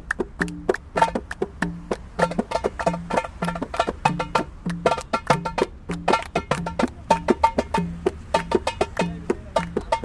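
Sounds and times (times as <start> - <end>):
goblet drum playing fast rhythm: 0.0 - 10.0.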